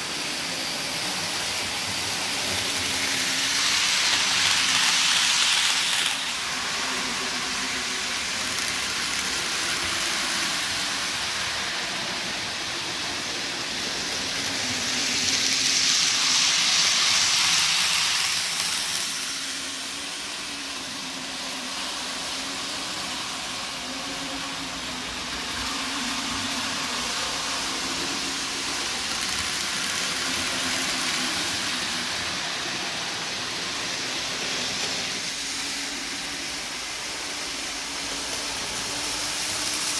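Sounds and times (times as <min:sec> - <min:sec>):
model train whirring on track: 0:00.0 - 0:39.9.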